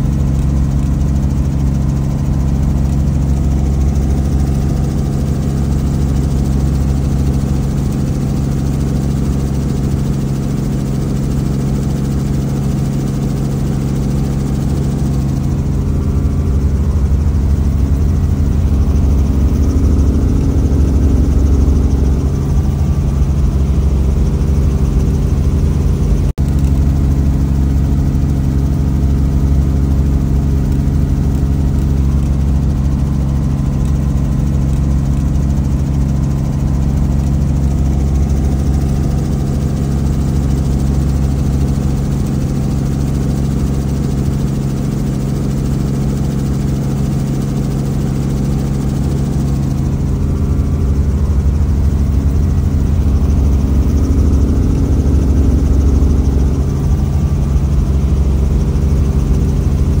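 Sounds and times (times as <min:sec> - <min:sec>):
helicopter engine and rotor drone: 0:00.0 - 1:00.0.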